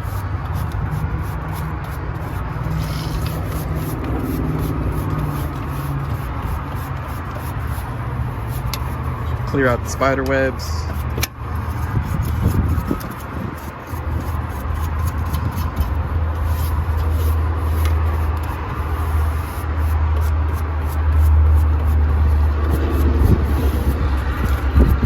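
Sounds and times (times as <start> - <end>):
steady low rumble: 0.0 - 25.0
stiff brush scrubbing: 0.0 - 25.0.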